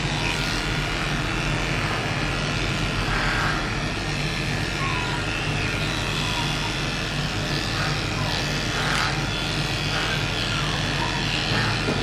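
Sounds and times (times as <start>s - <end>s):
electric clipper motor hum: 0.0s - 12.0s.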